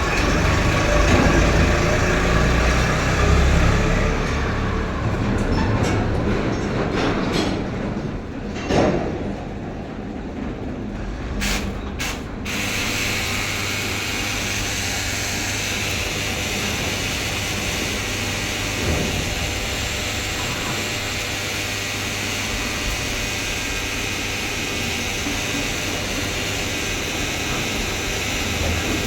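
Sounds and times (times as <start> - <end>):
backhoe diesel engine running: 0.0 - 7.4, 11.4 - 29.0.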